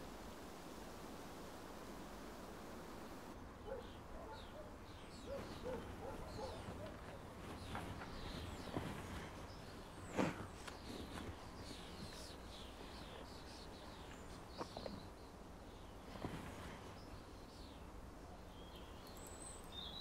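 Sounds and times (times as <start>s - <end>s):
birds chirping and calling: 3.5s - 20.0s.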